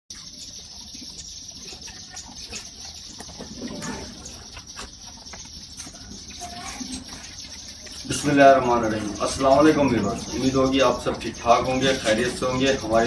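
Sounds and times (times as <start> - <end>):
outdoor background noise: 0.1 - 13.0.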